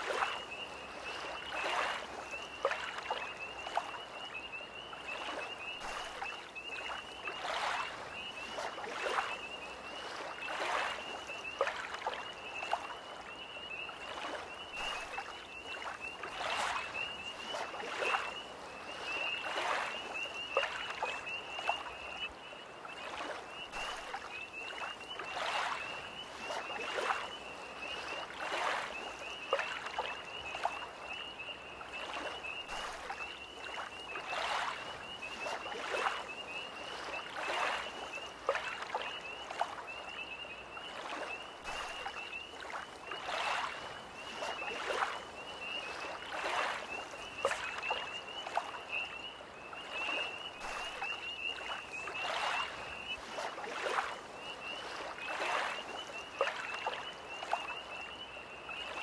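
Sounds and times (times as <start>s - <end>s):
tree frogs trilling: 0.0s - 59.0s
waves lapping at shore: 0.0s - 59.0s.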